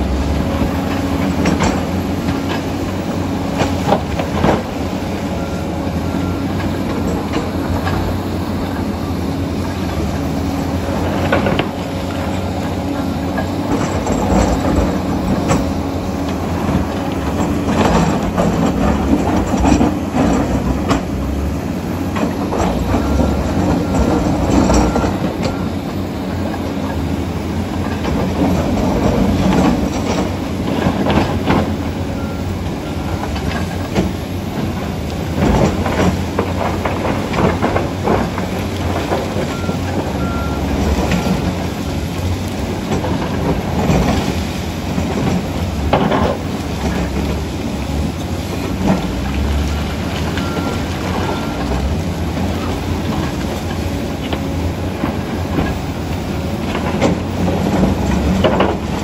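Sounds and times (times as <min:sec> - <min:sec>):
diesel engine under load: 0:00.0 - 0:59.0
steel tracks clanking: 0:00.0 - 0:59.0.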